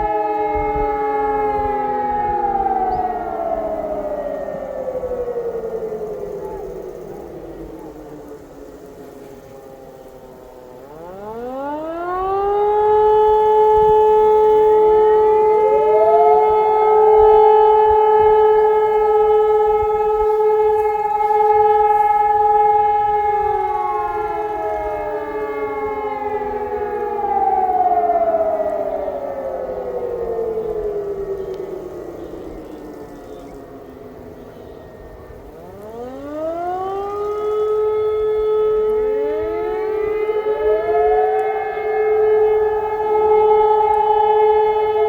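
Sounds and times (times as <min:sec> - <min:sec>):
sirens winding up and down: 0:00.0 - 0:45.0.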